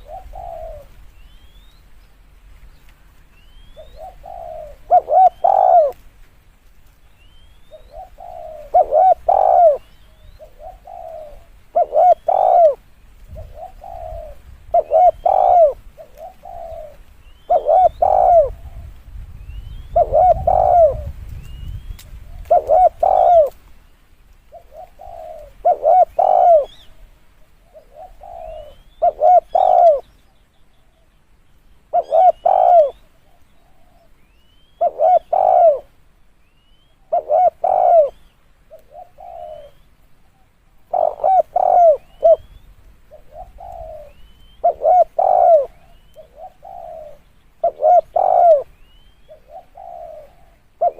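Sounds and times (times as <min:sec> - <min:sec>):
dove cooing: 0:00.0 - 0:01.7, 0:03.5 - 0:06.0, 0:07.3 - 0:19.0, 0:19.6 - 0:23.6, 0:24.5 - 0:30.1, 0:31.9 - 0:36.0, 0:36.8 - 0:50.9.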